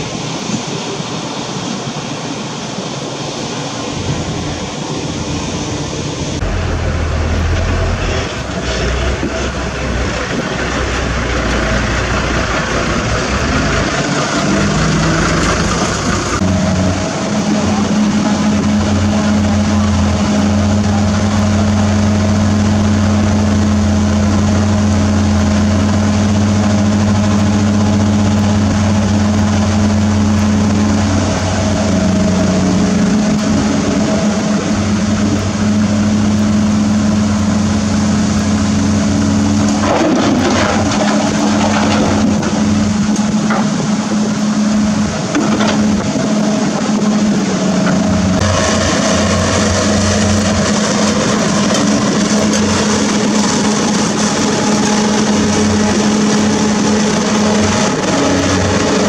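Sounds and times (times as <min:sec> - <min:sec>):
diesel truck engine idling: 0:00.0 - 0:59.0
rough burst of noise: 0:00.0 - 0:59.0.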